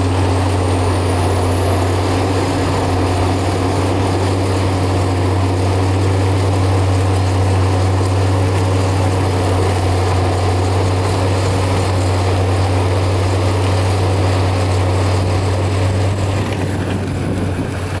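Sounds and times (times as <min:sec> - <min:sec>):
forestry mulcher droning: 0:00.0 - 0:18.0.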